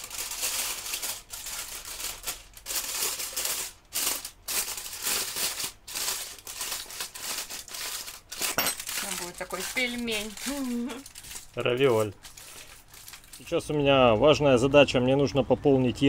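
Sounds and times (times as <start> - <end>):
aluminium foil crinkling: 0.0 - 13.9.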